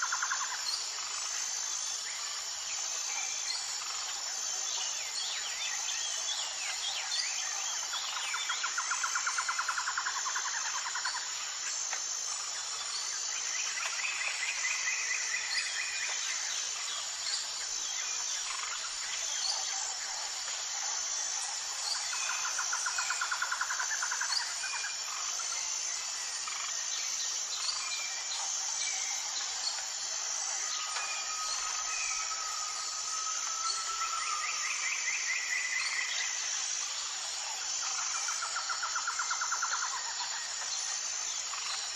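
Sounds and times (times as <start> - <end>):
insect chorus: 0.0 - 41.9.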